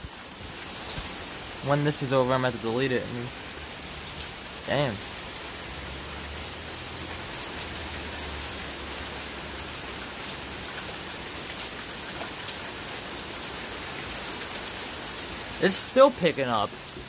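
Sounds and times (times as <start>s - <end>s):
heavy rain hissing: 0.0s - 17.0s
raindrops ticking on surfaces: 0.0s - 17.0s.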